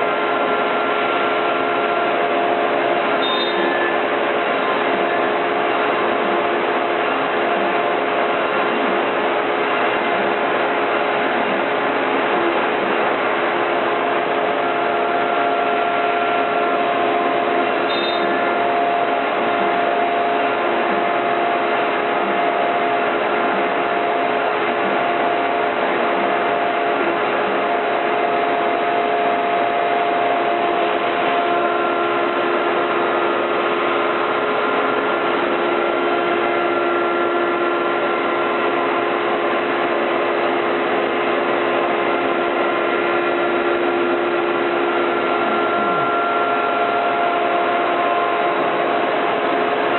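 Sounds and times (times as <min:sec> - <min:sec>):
router spindle whining: 0:00.0 - 0:40.8, 0:41.4 - 0:49.9.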